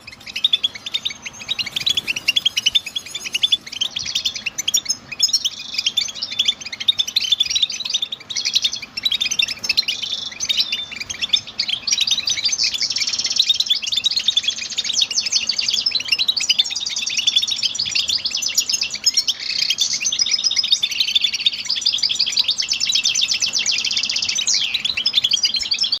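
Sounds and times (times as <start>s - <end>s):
goldfinch twittering song: 0.0s - 26.0s.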